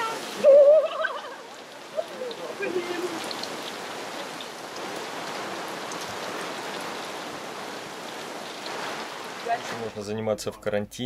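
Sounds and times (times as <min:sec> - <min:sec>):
rain drops ticking on canvas: 0:00.0 - 0:09.6
heavy rain on water: 0:00.0 - 0:10.0.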